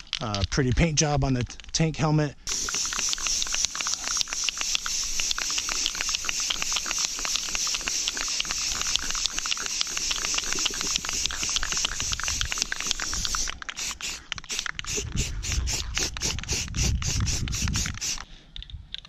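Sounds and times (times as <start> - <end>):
spray paint can hissing: 2.5 - 18.3.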